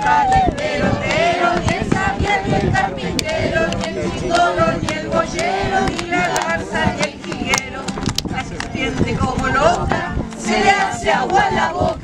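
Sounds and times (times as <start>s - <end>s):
children and adults singing: 0.0s - 12.0s
strummed acoustic guitar: 0.1s - 11.6s.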